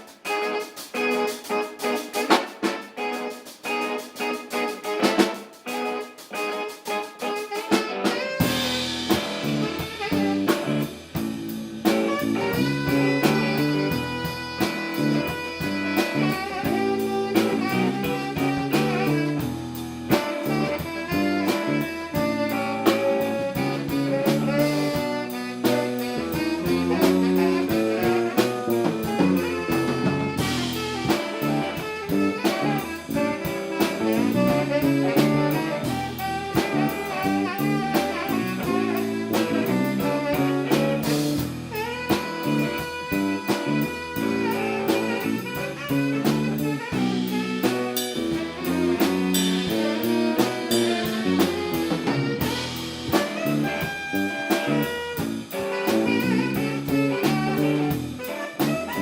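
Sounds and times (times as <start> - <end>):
drums: 0.0 - 59.0
saxophone: 0.0 - 59.0
bass: 7.3 - 59.0.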